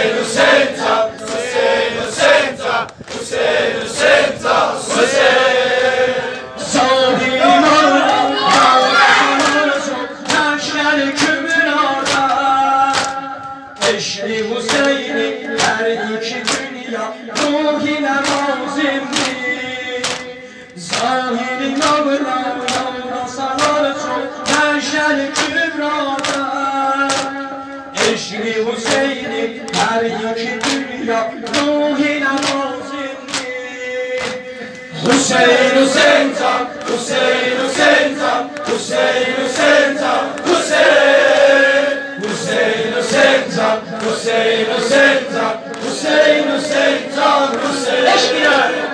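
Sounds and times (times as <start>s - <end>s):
men singing a lament: 0.0s - 48.9s.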